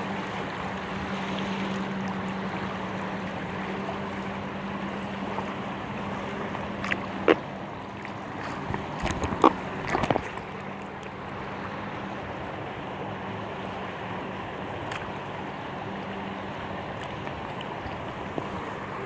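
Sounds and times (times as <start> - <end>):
river water rushing and lapping: 0.0 - 19.0
water splashes and knocks: 0.0 - 19.0.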